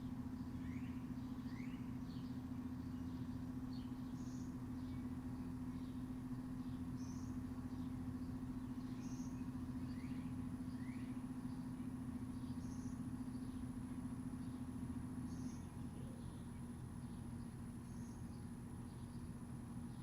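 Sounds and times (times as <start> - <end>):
low mechanical hum: 0.0 - 20.0
bird chirps: 0.4 - 19.3.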